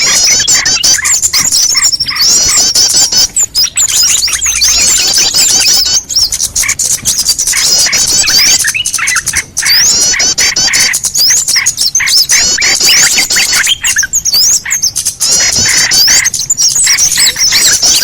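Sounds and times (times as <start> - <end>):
many small birds chirping: 0.0 - 18.0.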